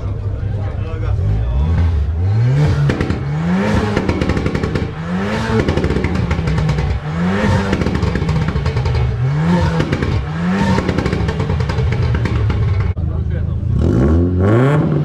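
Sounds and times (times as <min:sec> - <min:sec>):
car engine revving: 0:00.0 - 0:15.0
exhaust crackling: 0:00.0 - 0:15.0.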